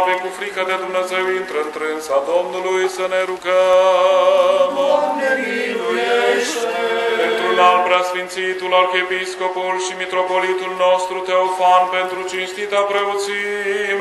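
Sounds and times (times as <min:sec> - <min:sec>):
men chanting unaccompanied: 0:00.0 - 0:14.0.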